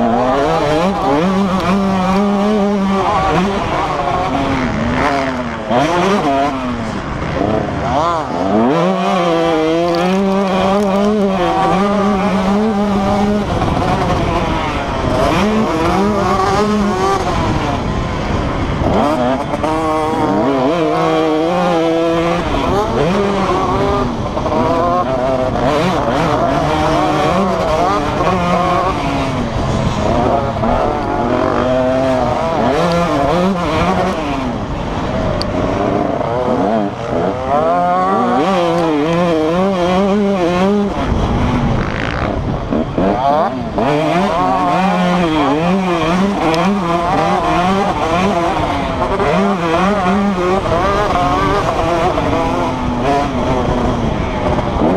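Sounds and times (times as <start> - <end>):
motocross bike engines revving: 0.0 - 54.9.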